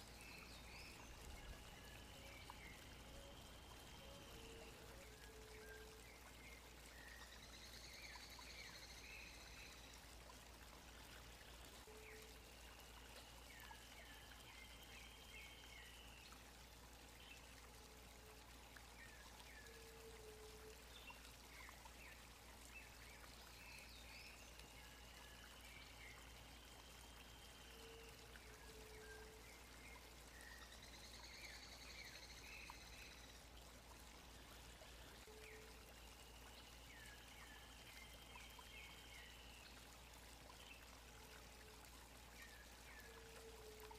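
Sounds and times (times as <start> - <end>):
faint rushing stream: 0.0 - 43.9.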